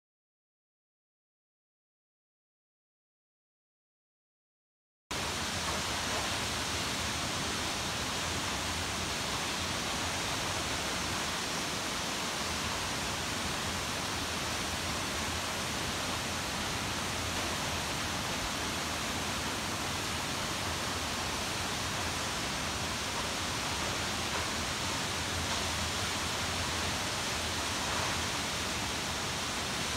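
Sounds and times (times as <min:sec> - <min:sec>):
waterfall roaring: 0:05.2 - 0:29.9.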